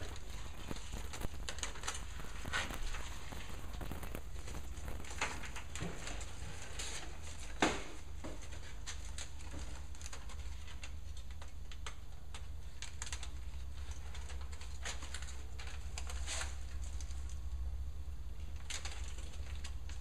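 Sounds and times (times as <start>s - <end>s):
insulation crinkling: 0.0s - 20.0s.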